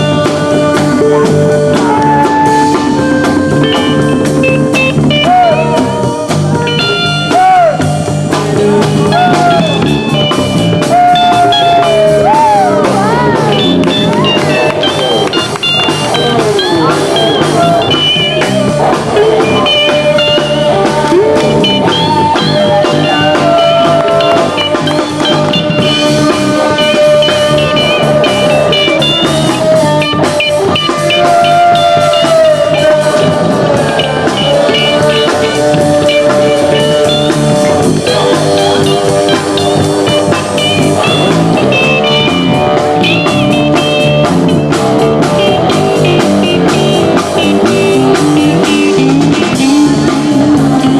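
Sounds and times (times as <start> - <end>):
drum kit beat: 0.0 - 50.9
electric guitar lead: 0.0 - 50.9.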